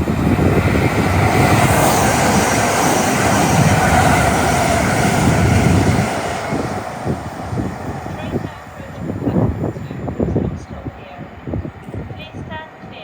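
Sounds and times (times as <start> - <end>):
train wheels rushing on rails: 0.0 - 13.0.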